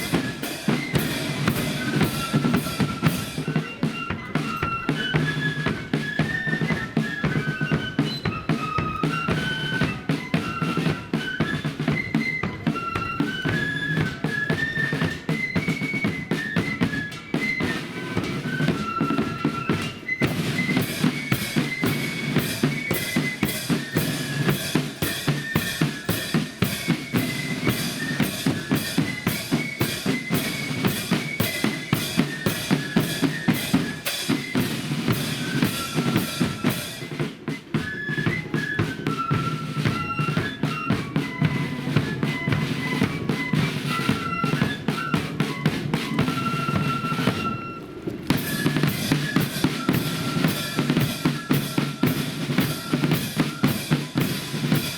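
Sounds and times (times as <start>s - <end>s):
shrill flute melody: 0.0s - 54.9s
snare drums: 0.0s - 54.9s.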